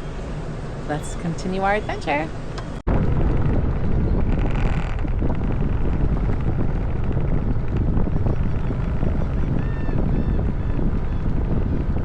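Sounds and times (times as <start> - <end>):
vehicle rumble: 0.0 - 12.0
wind buffeting microphone: 0.5 - 12.0.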